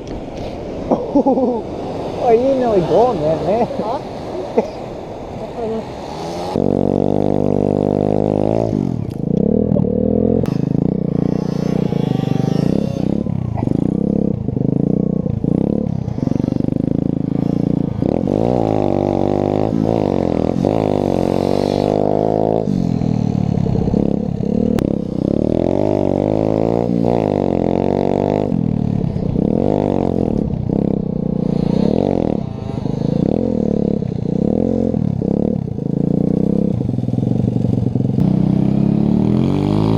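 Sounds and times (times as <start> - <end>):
pit bike engine revving: 1.2 - 39.9.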